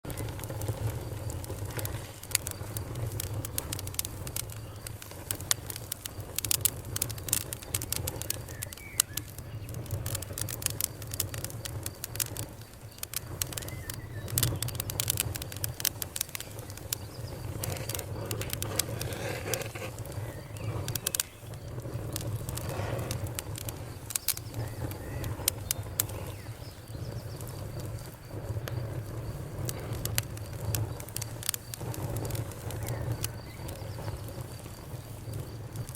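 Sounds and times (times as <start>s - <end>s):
fire crackling and popping: 0.0s - 35.9s
low rush of fire: 0.0s - 35.9s.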